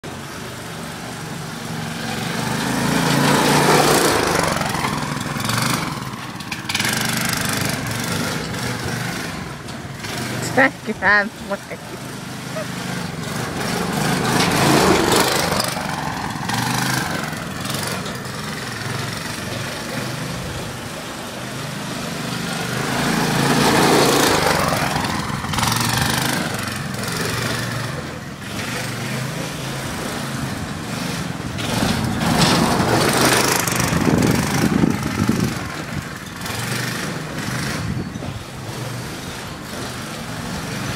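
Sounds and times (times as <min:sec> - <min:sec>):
go-kart engine passing: 0:00.0 - 0:40.9.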